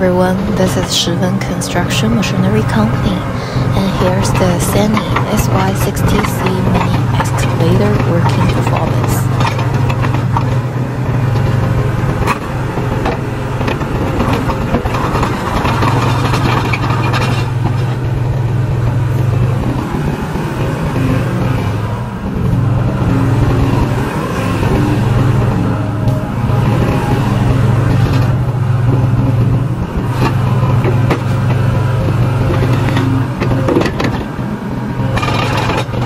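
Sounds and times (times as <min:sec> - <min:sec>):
excavator diesel engine drone: 0:00.0 - 0:36.0.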